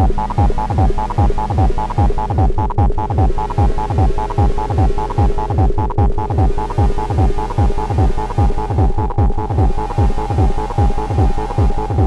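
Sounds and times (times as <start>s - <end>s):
steady held electronic tone: 0.0s - 12.0s.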